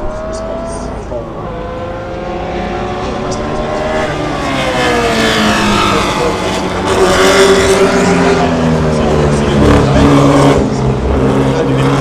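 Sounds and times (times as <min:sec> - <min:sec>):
racing car engines running hard: 0:00.0 - 0:12.0.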